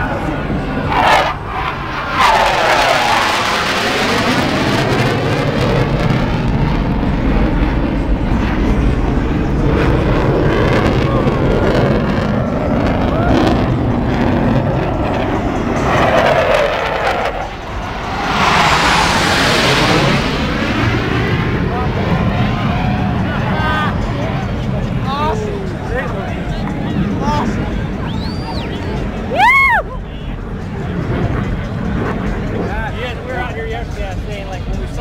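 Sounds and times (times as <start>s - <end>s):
jet engines rumbling past: 0.0s - 35.0s.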